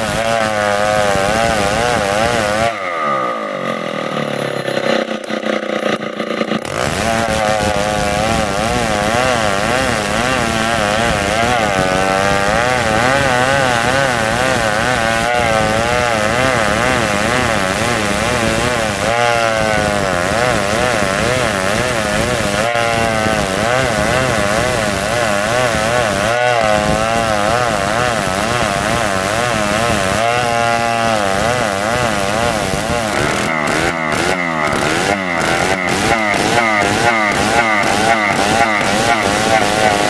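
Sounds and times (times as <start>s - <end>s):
chainsaw ripping a log: 0.0s - 40.0s.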